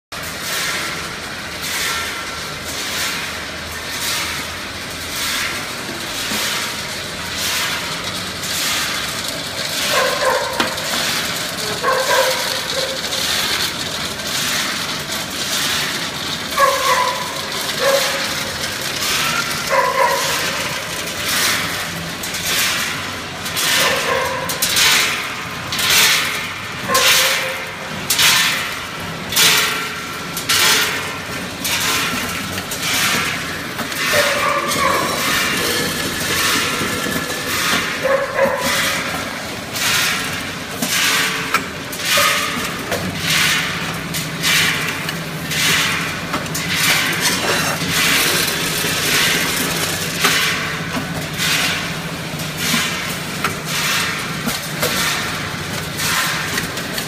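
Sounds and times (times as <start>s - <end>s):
machinery clatter and hum: 0.1s - 57.0s.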